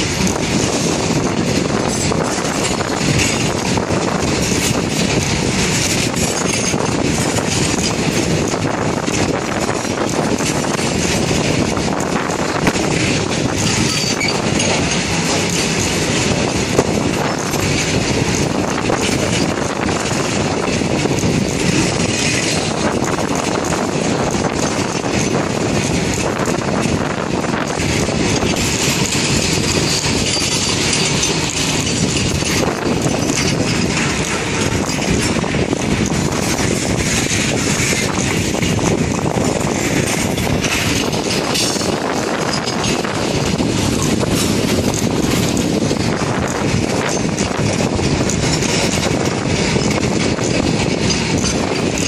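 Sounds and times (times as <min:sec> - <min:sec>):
clicks and knocks of wagons: 0:00.0 - 0:52.0
train wheels rumbling on rail: 0:00.0 - 0:52.0.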